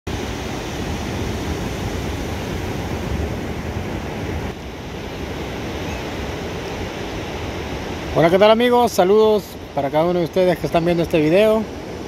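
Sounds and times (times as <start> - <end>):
wind rumbling on microphone: 0.1 - 9.8
ocean surf washing onto beach: 0.1 - 12.0.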